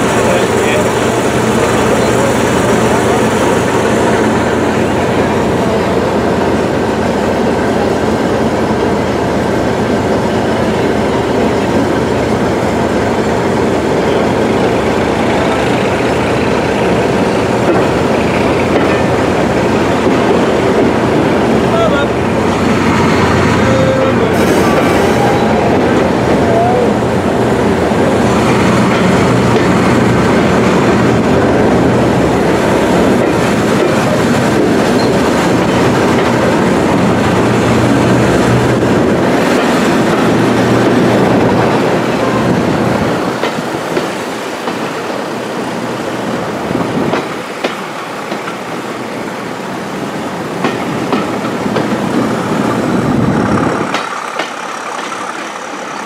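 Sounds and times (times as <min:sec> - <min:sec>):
diesel locomotive engine running: 0:00.0 - 0:56.0
train noise with sharp clicks: 0:00.0 - 0:56.0.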